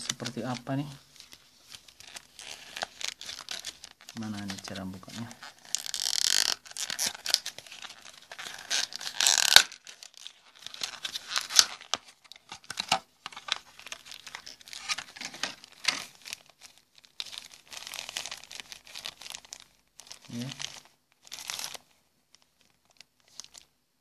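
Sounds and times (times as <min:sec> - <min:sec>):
plastic packaging crinkling: 0:00.0 - 0:23.7.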